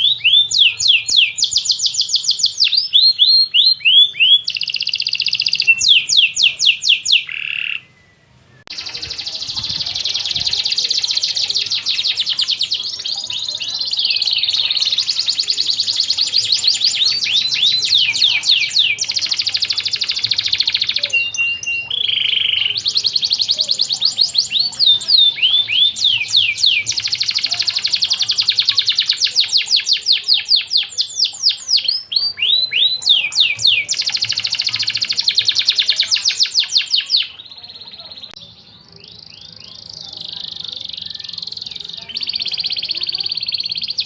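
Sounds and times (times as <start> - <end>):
canary singing trills: 0.0 - 44.0.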